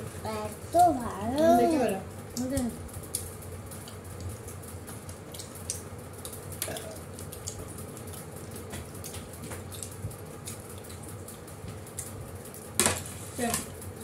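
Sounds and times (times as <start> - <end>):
low steady hum: 0.0 - 14.0
people chewing and eating: 0.0 - 14.0.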